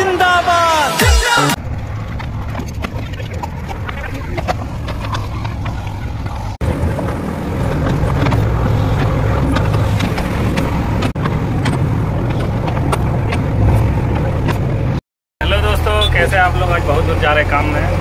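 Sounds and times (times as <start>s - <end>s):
diesel engine under load: 1.6s - 18.0s.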